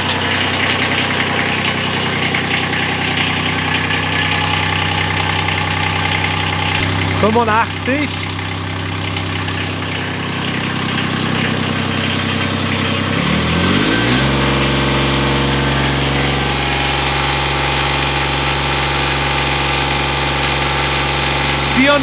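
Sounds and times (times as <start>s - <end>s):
diesel engine idling and revving: 0.0s - 22.0s.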